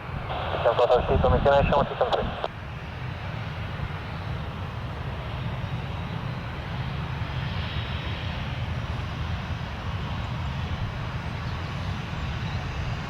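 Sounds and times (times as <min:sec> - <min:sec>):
aircraft engines rumbling: 0:00.0 - 0:13.0.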